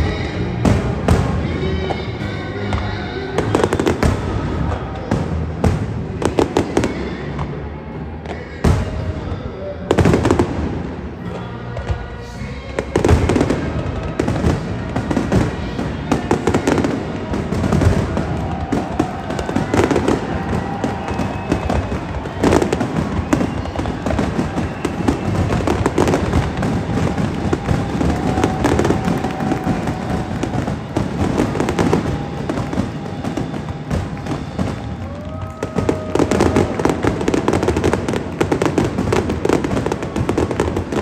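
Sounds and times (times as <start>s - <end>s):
fireworks bursting: 0.0s - 41.0s.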